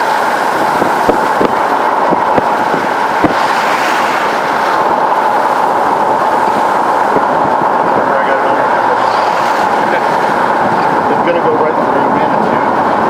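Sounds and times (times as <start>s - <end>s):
road and engine noise in cabin: 0.0s - 13.0s.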